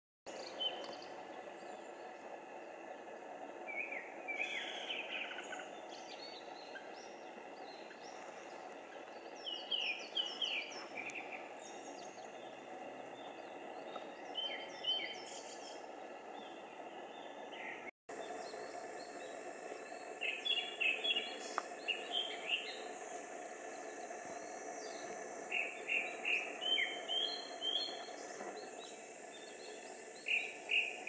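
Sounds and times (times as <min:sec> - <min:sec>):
background hiss: 0:00.3 - 0:31.0
faint cicada drone: 0:00.3 - 0:31.0
songbird singing: 0:00.3 - 0:31.0.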